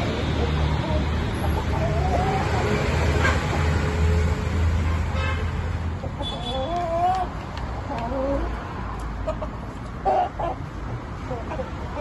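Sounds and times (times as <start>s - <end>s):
chickens clucking: 0.1s - 3.9s, 6.0s - 12.0s.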